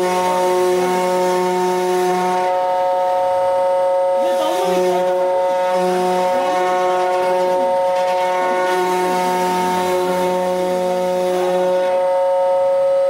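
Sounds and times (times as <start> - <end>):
low machine hum: 0.0 - 13.0
router spindle whine: 0.0 - 13.0.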